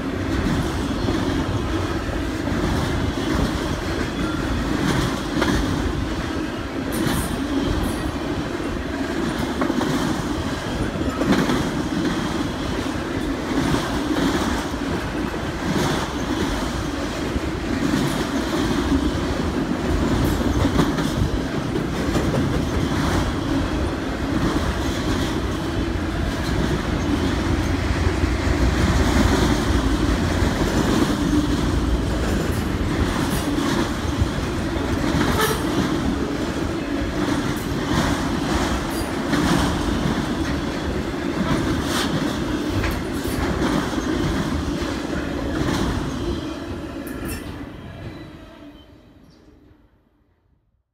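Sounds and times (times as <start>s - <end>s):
steel wheels rumbling on rails: 0.0s - 48.2s.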